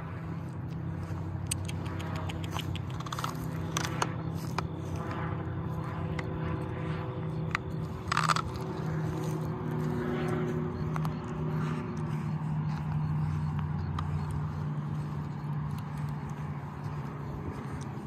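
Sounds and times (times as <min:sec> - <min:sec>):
distant traffic hum: 0:00.0 - 0:18.0
footsteps on dirt trail: 0:00.0 - 0:18.0.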